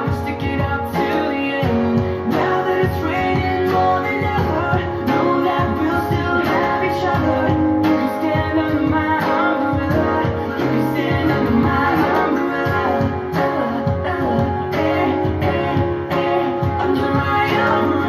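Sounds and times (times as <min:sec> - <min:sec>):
song with guitar and singing: 0:00.0 - 0:18.0.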